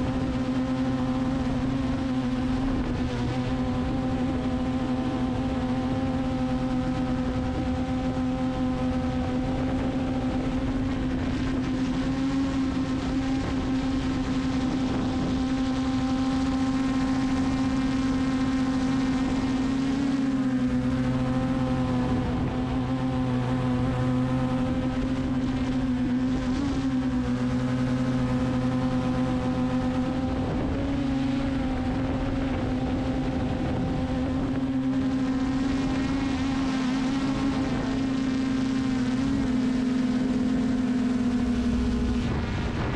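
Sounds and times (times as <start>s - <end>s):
drone motors buzzing: 0.0s - 42.9s.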